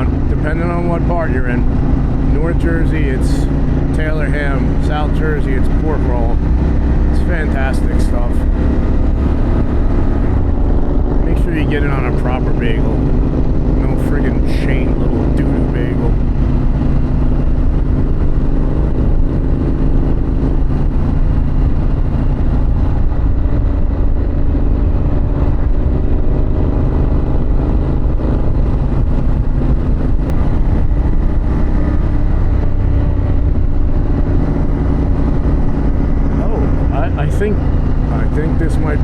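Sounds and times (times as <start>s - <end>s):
motorcycle engine cruising: 0.0s - 39.0s
wind rumble on microphone: 0.0s - 39.0s.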